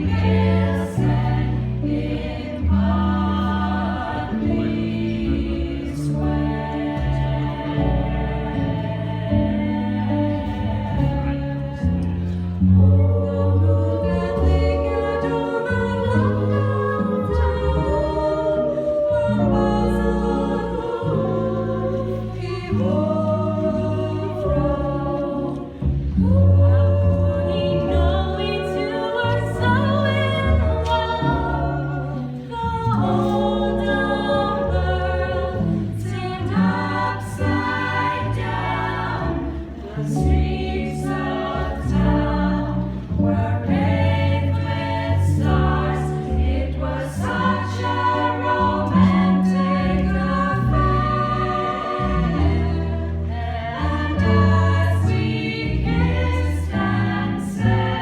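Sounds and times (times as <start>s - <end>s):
vocal ensemble close harmony: 0.0s - 58.0s.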